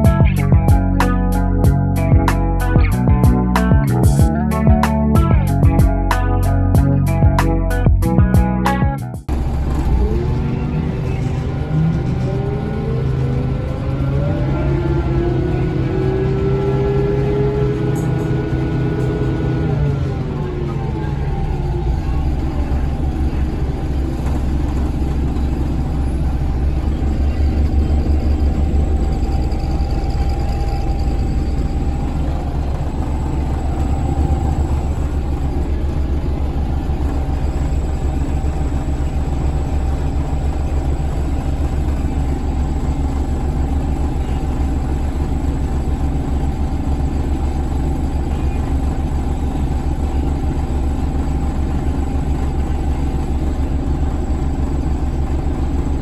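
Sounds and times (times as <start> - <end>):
bus diesel engine droning: 0.0 - 56.0.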